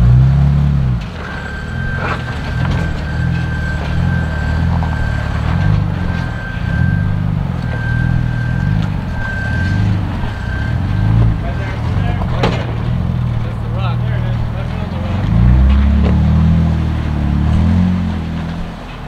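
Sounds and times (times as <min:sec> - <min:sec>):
vehicle engine pulsing at low speed: 0:00.0 - 0:19.0.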